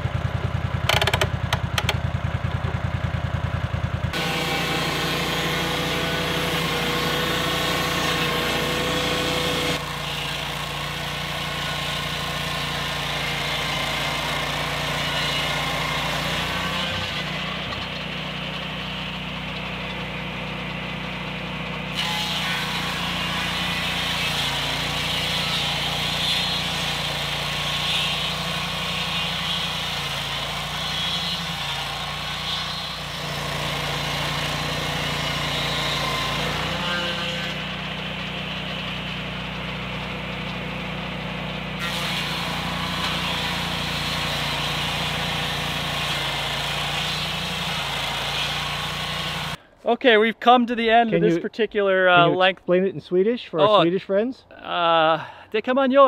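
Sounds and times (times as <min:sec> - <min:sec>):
sawmill engine running: 0:00.0 - 0:49.7
circular blade cutting log: 0:04.1 - 0:49.6.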